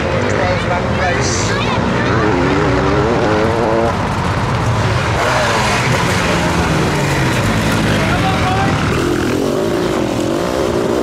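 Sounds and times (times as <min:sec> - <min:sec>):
racing engines revving: 0:00.0 - 0:11.0.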